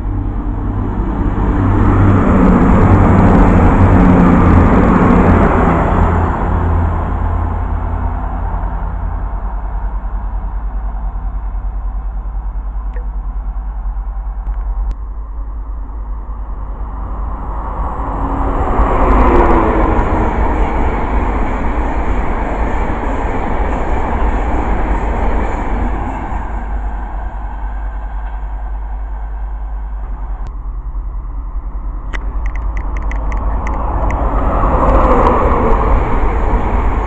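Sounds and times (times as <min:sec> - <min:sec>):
low rumble: 0:00.0 - 0:21.6, 0:25.5 - 0:37.0
train wheels rushing on rails: 0:00.0 - 0:37.0.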